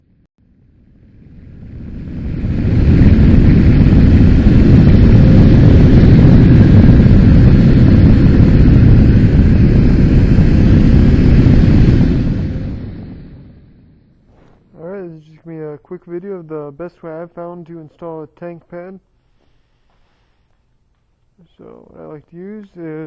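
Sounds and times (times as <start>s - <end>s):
loud steady rumbling: 0.0s - 18.7s.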